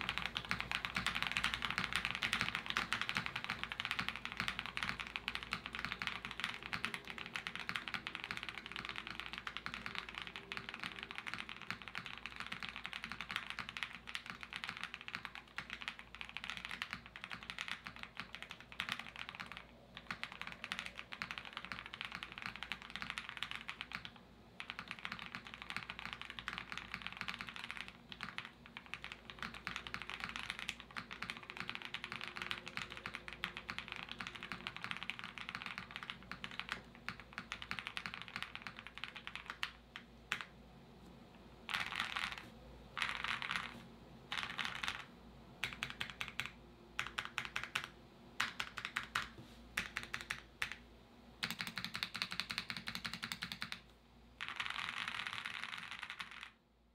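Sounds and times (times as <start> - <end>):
deep mechanical keyboard typing: 0.0 - 40.6, 41.6 - 50.8, 51.4 - 56.6.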